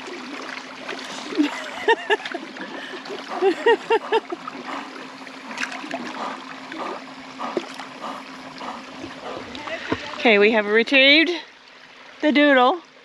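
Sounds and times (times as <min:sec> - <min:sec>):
paddle splashes: 0:00.0 - 0:10.6
water lapping and dripping: 0:00.0 - 0:13.0.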